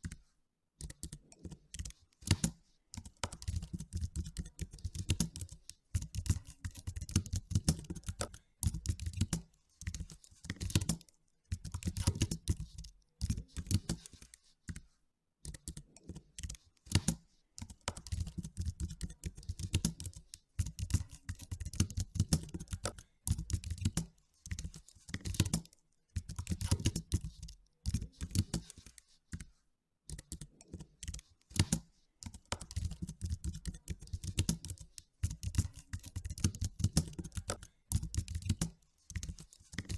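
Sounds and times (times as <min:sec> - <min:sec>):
computer keyboard typing: 0:00.8 - 0:29.5, 0:30.1 - 0:39.9.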